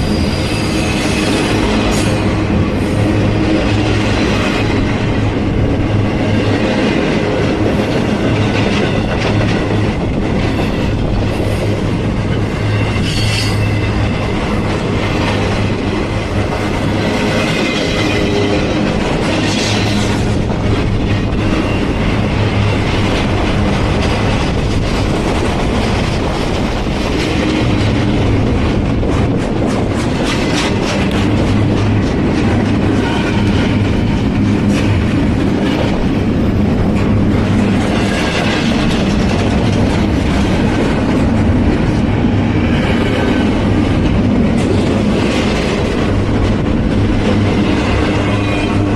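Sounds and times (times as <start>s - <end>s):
train wheels clattering over rail joints: 0.0s - 48.9s.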